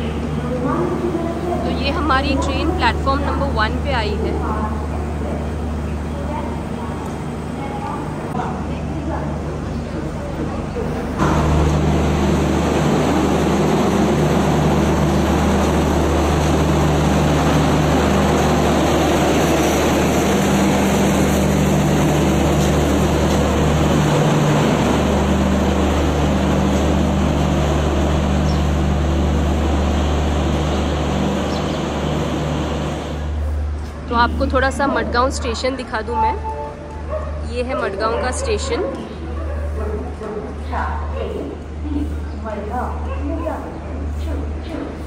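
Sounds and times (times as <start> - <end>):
diesel generator humming: 0.0 - 45.0
train moving slowly: 0.0 - 45.0.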